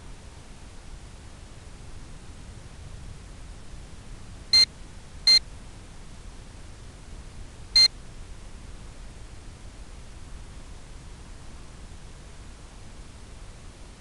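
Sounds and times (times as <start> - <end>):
steady static hiss: 0.0 - 14.0.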